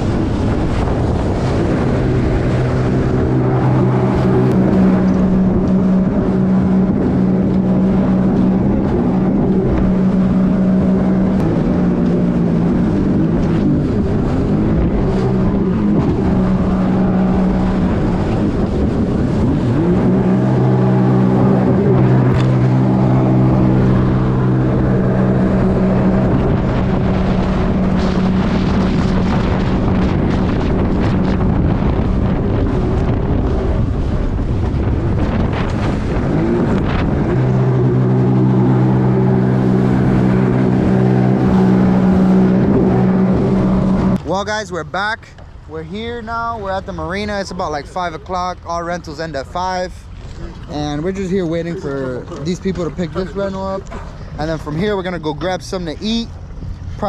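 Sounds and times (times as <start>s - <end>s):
jet ski engine: 0.0s - 57.0s
wind rushing over microphone: 0.0s - 57.0s.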